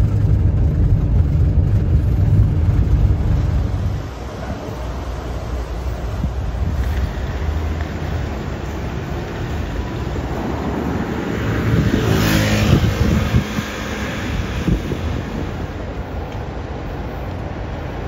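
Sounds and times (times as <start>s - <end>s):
vehicle passing close by: 0.0s - 16.9s
street traffic rumble: 0.0s - 18.0s.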